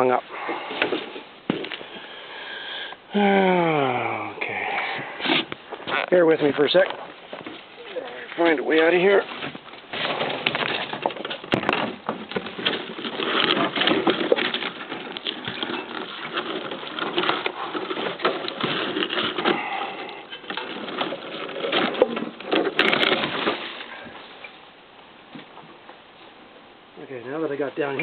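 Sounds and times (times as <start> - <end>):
rustling and scraping of branches: 0.0 - 2.9, 4.5 - 28.0.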